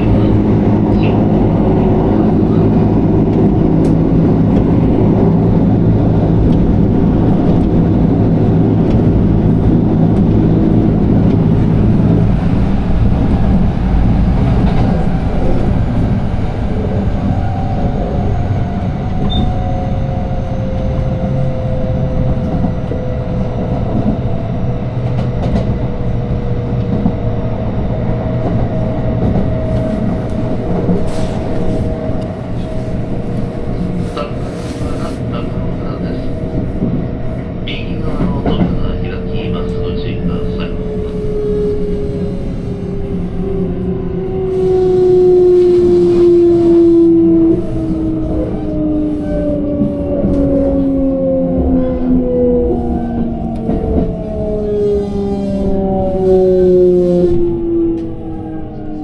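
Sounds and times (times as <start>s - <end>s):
train rumbling on track: 0.0s - 59.0s.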